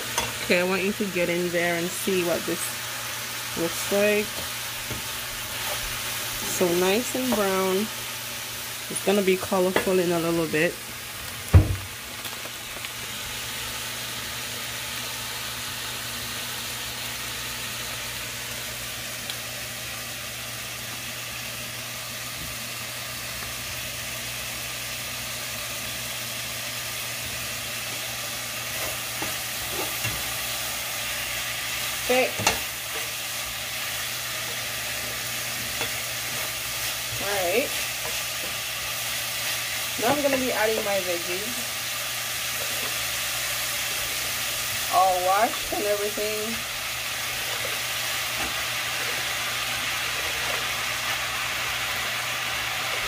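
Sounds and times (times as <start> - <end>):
chicken sizzling in a pot: 0.0 - 53.0.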